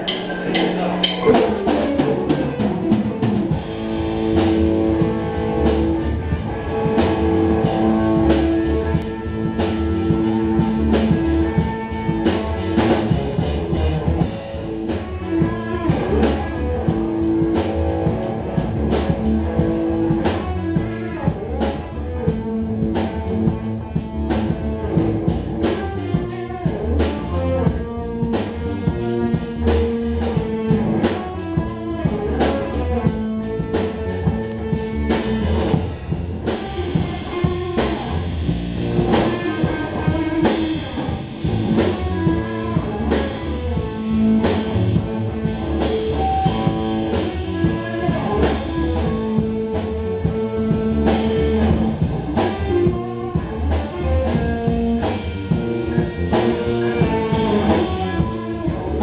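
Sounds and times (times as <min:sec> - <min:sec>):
bass guitar: 0:00.0 - 0:59.0
sustained guitar notes: 0:00.0 - 0:59.0.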